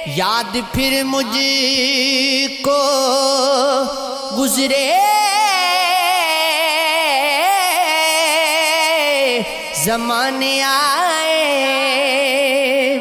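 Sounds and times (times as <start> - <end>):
person singing long ornamented note: 0.0 - 13.0.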